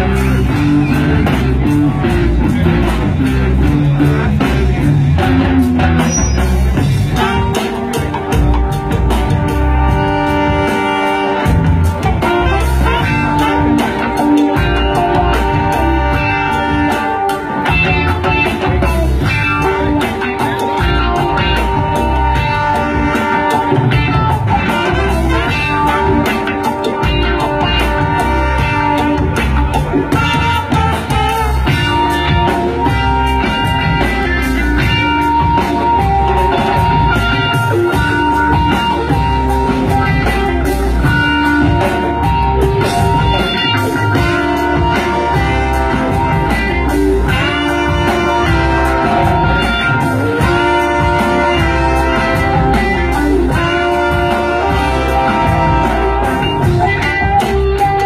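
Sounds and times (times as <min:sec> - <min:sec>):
electric guitar: 0:00.0 - 0:58.0
live band playing: 0:00.0 - 0:58.0.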